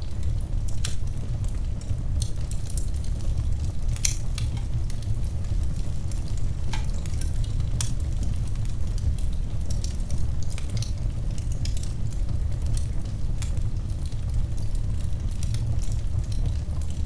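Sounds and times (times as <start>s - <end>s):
fire crackling and popping: 0.0s - 17.0s
fire rumbling in fireplace: 0.0s - 17.0s.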